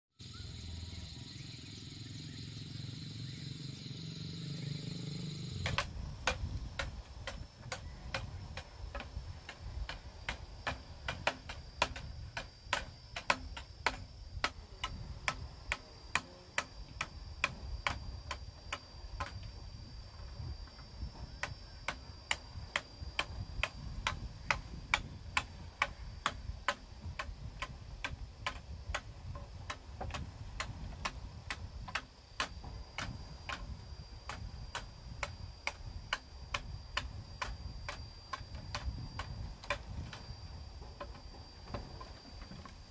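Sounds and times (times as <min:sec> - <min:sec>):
faint high whine: 0:00.2 - 0:42.9
sharp taps and knocks on bamboo: 0:05.6 - 0:19.6, 0:20.2 - 0:42.9.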